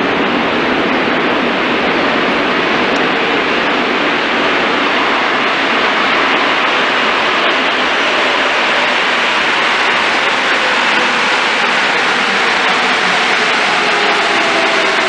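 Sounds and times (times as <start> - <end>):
train rushing on rails: 0.0 - 15.0.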